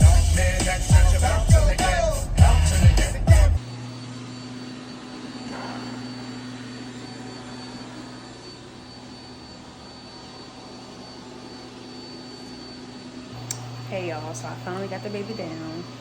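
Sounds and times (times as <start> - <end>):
faint high whine: 0.0 - 16.0
mechanical hum and whir: 0.0 - 16.0.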